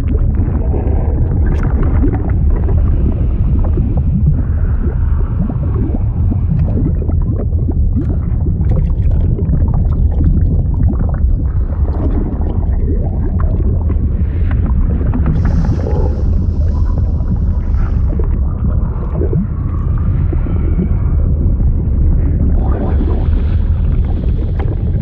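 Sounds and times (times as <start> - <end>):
bubbling pops: 0.0 - 17.5, 18.1 - 21.1
deep rumble: 0.0 - 25.0.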